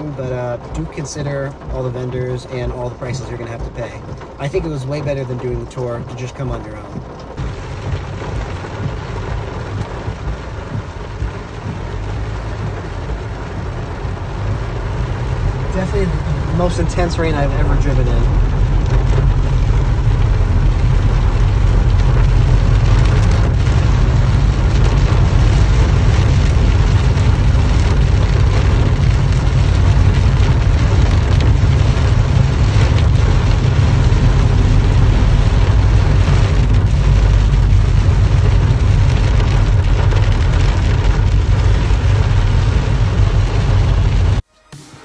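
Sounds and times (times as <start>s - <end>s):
car driving rumble: 0.0s - 44.5s
heavy rain on car roof: 0.0s - 44.5s.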